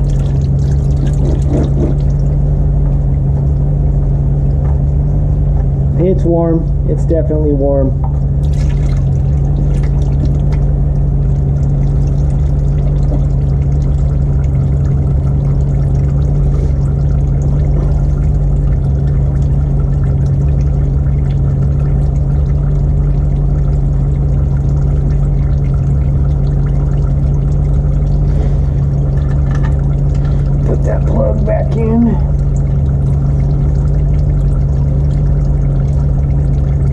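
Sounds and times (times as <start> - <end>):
low hum: 0.0 - 36.9.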